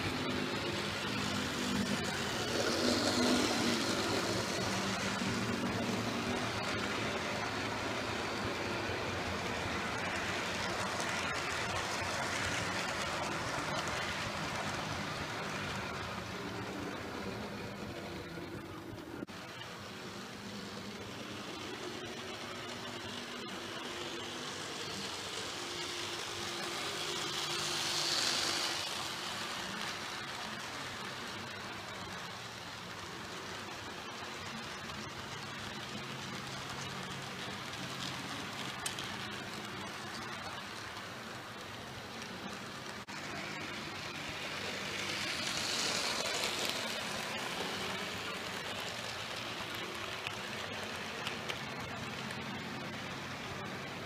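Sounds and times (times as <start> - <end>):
model train motor humming: 0.0 - 54.0
wheels rolling on rails: 0.0 - 54.0.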